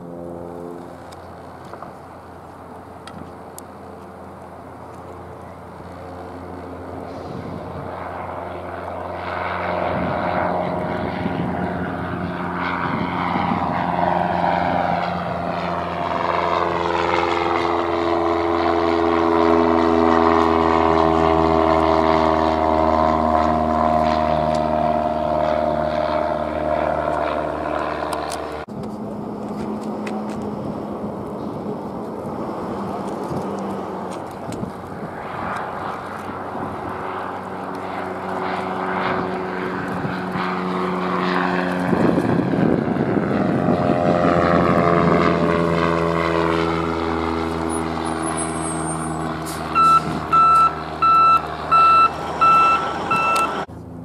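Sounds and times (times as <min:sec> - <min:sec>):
distant propeller plane engine: 0:00.0 - 0:54.0
propeller plane engine drone: 0:00.0 - 0:54.0.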